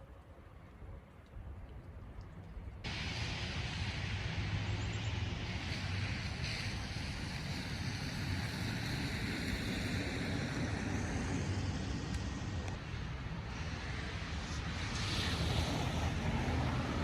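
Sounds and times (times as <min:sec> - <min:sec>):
car driving road noise: 0:02.9 - 0:17.0.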